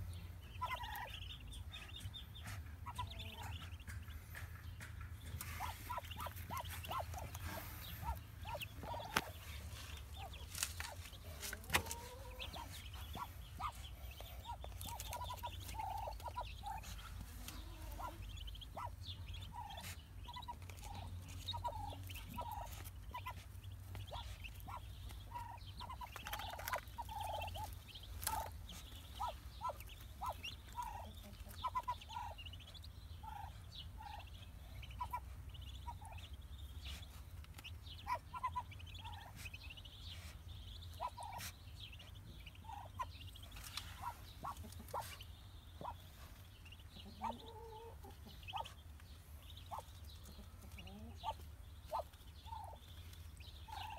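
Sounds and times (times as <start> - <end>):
duck and ducklings calling: 0.0 - 53.9
steady low hum: 0.0 - 53.9.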